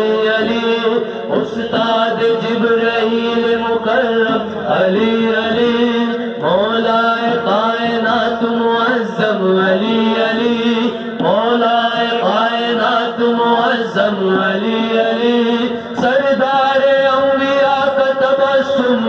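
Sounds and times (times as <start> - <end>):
men chanting devotional song: 0.0 - 19.0.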